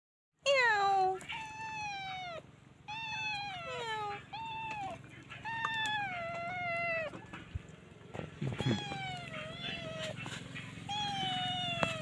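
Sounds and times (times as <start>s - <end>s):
kittens meowing: 1.0s - 12.0s.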